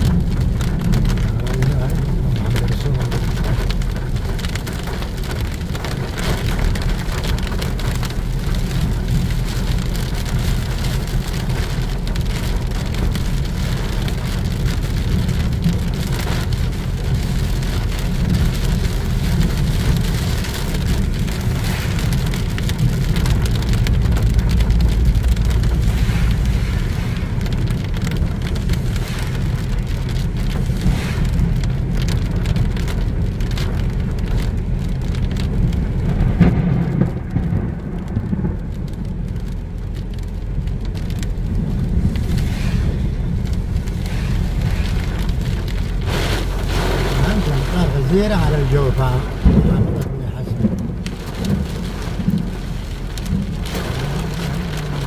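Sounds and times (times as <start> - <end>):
continuous low rumble: 0.0 - 55.0
heavy rain falling: 0.0 - 55.0.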